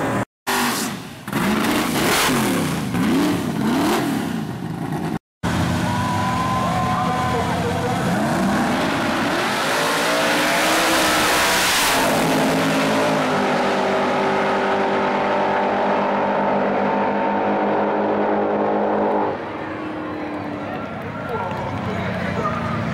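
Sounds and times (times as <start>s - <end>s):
drag car engines at full throttle: 0.0s - 22.9s.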